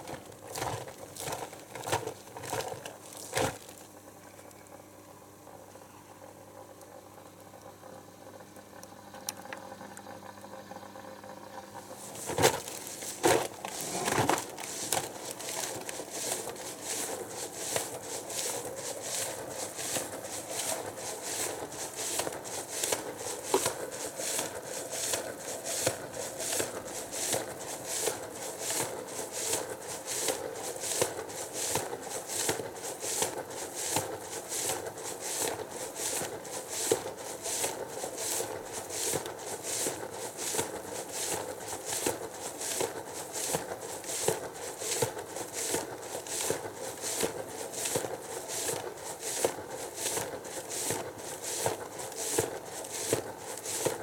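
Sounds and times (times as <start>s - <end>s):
water sloshing in washing machine: 0.0s - 4.0s, 11.8s - 54.0s
washing machine hum: 0.0s - 54.0s.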